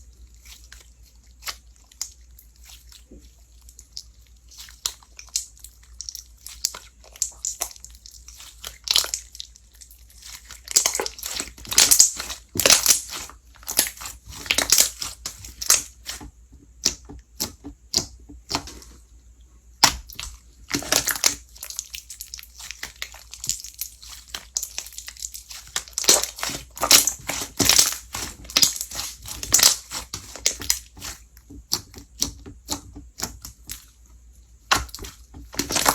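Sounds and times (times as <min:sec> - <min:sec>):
slime crackling and popping: 0:00.4 - 0:16.2, 0:19.8 - 0:33.9, 0:34.7 - 0:35.9.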